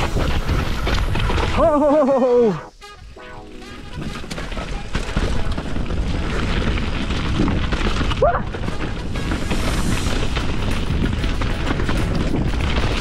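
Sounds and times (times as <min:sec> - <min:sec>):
bike rattling over bumps: 0:00.0 - 0:02.1, 0:03.9 - 0:13.0
tyres rolling over mud: 0:00.0 - 0:02.5, 0:03.8 - 0:13.0.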